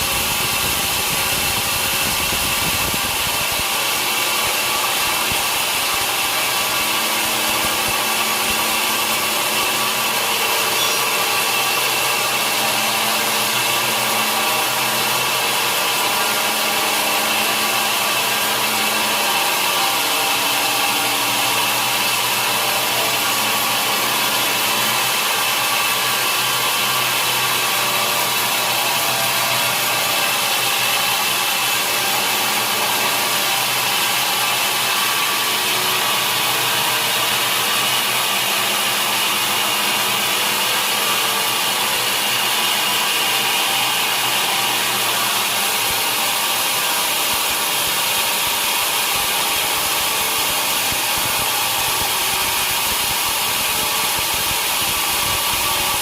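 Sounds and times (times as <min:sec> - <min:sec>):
machine hum: 0:00.0 - 0:56.0
saw cutting through log: 0:00.0 - 0:56.0.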